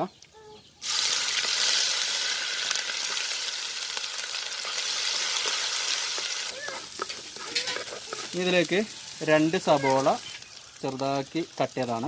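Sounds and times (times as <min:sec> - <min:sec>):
food sizzling in hot oil: 0:00.8 - 0:12.0.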